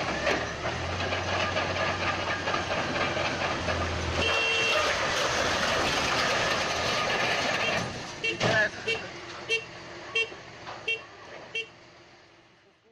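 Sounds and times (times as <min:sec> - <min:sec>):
bulldozer diesel engine: 0:00.0 - 0:12.9.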